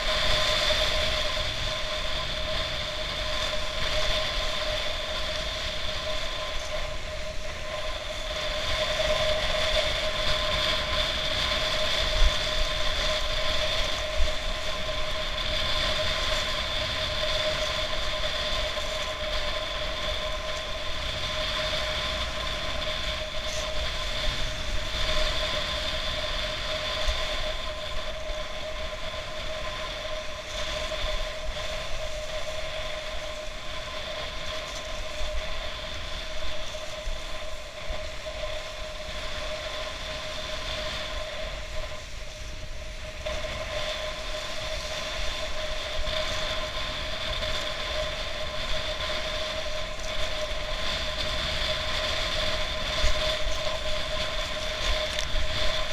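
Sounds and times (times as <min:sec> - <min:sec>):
high whine: 0:00.0 - 0:55.9
wind and water rushing: 0:00.0 - 0:55.9.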